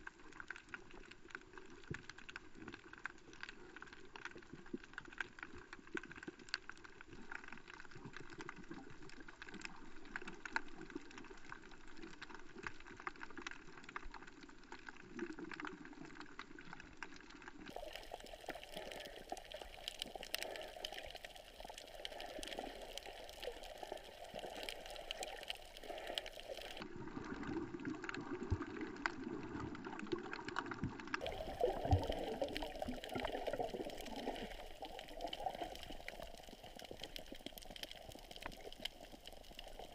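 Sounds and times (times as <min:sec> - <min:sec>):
muffled underwater water wash: 0:00.0 - 0:39.9
fine crackling clicks: 0:00.1 - 0:26.9, 0:30.4 - 0:39.9.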